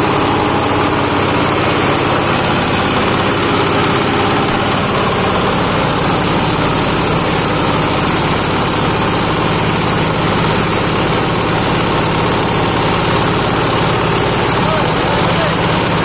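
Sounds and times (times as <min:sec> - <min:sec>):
grinding machine running: 0:00.0 - 0:16.0.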